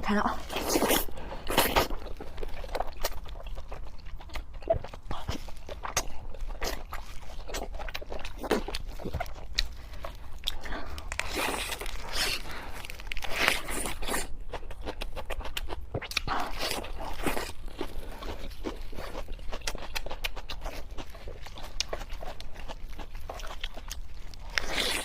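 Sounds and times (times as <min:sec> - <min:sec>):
chewing and crunching food: 0:00.1 - 0:25.0.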